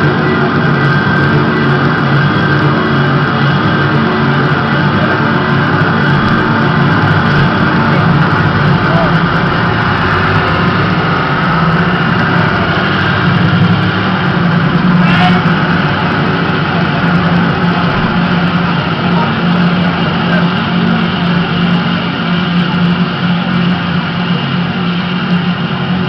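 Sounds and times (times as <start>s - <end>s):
loud low droning hum: 0.0s - 26.0s.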